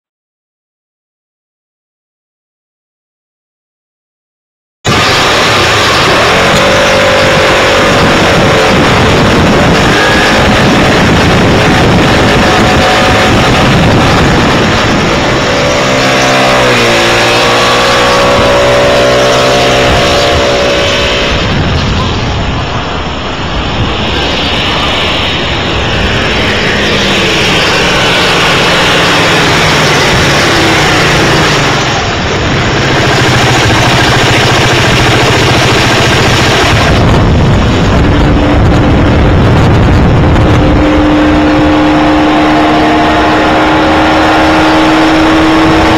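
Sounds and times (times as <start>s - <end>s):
steady rushing noise: 4.9s - 45.9s.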